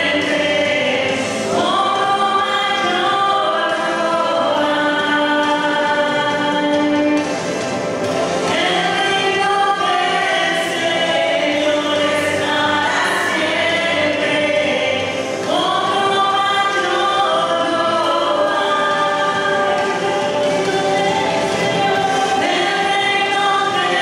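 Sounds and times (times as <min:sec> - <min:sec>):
women singing worship song: 0:00.0 - 0:24.0.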